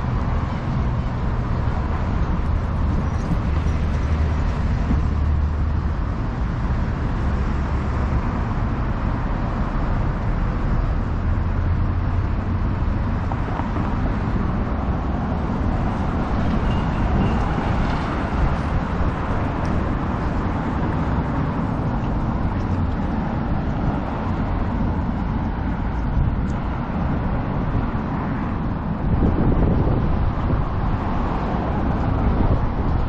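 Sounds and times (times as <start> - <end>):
city street traffic rumble: 0.0 - 33.0.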